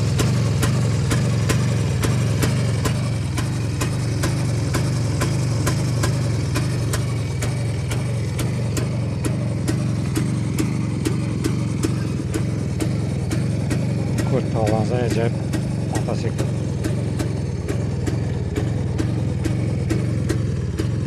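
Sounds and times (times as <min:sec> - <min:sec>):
motorcycle engine idling: 0:00.0 - 0:21.0
sharp ticking: 0:00.0 - 0:21.0.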